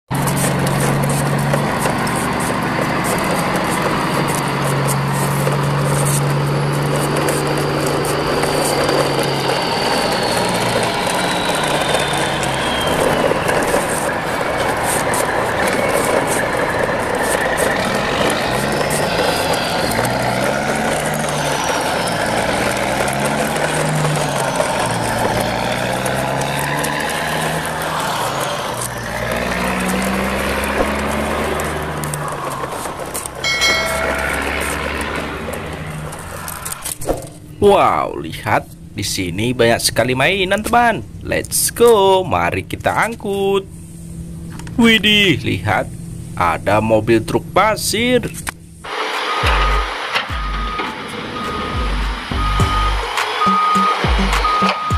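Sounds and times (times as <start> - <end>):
heavy truck engine running: 0.1 - 39.5, 43.6 - 46.7, 47.4 - 54.9.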